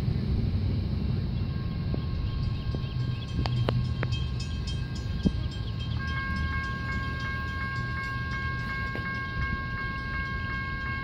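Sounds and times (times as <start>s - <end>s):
locomotive rumble: 0.0s - 11.0s
railroad bell ringing: 1.5s - 11.0s.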